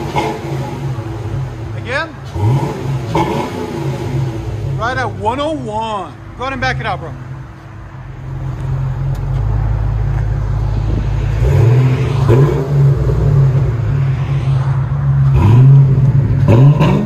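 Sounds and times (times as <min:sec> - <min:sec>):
car engine idling: 0:00.0 - 0:14.1.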